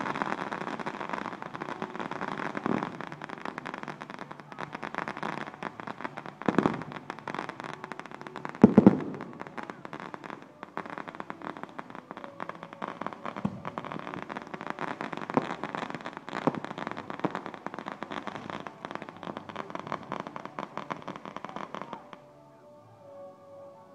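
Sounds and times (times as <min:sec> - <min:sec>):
fireworks crackling: 0:00.0 - 0:22.6.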